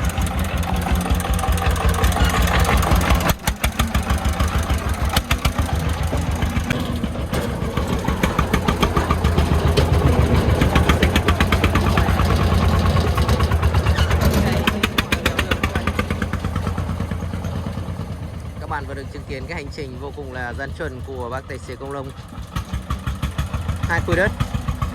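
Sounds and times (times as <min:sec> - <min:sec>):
diesel engine chugging: 0:00.0 - 0:24.9.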